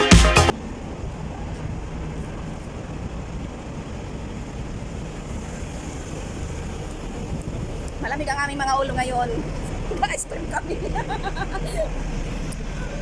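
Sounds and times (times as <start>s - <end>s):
rumble of traffic: 0.5s - 13.0s.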